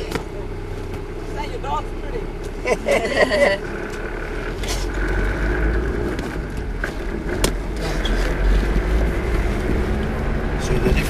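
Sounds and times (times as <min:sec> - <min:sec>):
car engine rumble: 0:00.0 - 0:11.0
road noise inside car: 0:00.0 - 0:11.0.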